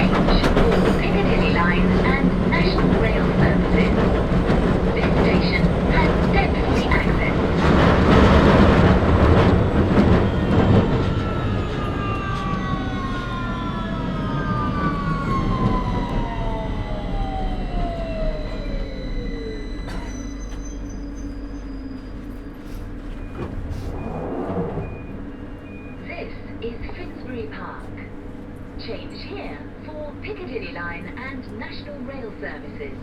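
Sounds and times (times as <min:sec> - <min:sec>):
train traction motor whine: 0:00.0 - 0:33.0
wheel and rail rumble: 0:00.0 - 0:33.0.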